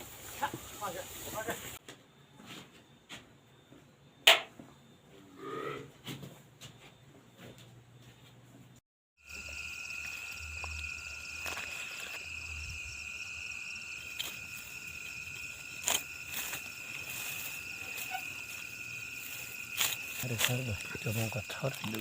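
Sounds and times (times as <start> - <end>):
crickets trilling: 0.0 - 7.5, 9.2 - 22.0.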